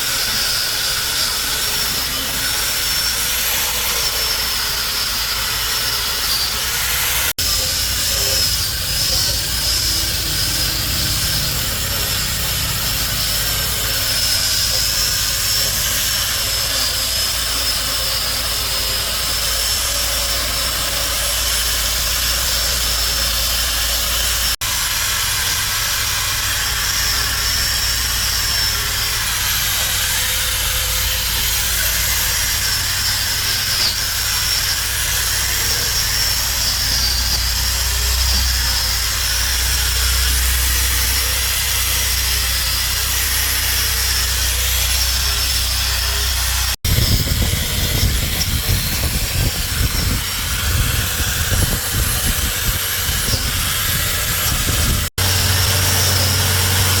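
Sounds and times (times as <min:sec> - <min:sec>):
power tool whirring: 0:00.0 - 0:57.0.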